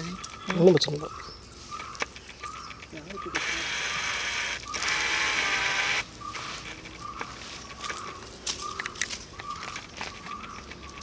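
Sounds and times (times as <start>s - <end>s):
sharp clicks: 1.8s - 11.0s.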